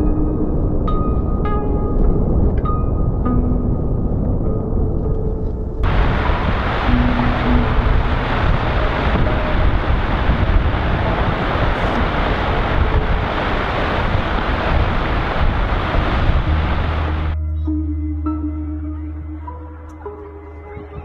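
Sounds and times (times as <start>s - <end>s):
wind buffeting microphone: 0.0s - 17.4s
low held music tone: 0.0s - 21.0s.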